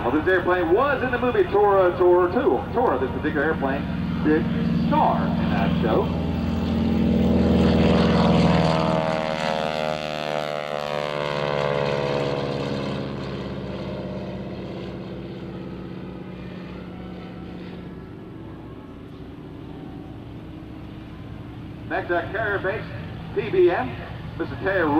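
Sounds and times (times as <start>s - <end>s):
propeller plane flying past: 0.0s - 24.9s.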